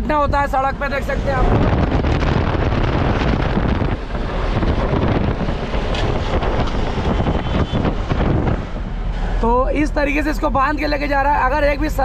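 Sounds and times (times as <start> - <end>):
road and engine noise: 0.0 - 12.0
wind rushing over microphone: 0.0 - 12.0.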